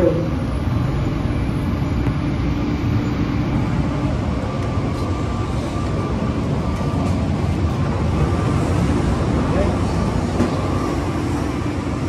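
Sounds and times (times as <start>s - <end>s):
faint steady whine: 0.0s - 12.0s
train car rumble from inside: 0.0s - 12.0s.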